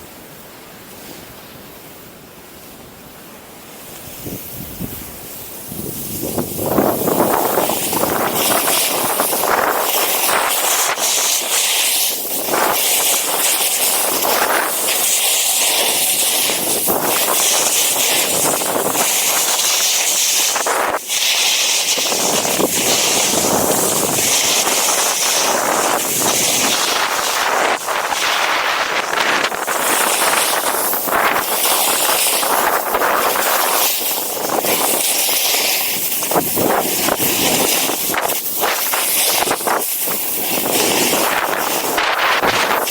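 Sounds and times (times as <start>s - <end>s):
wind buffeting microphone: 4.0s - 21.1s, 21.9s - 42.9s.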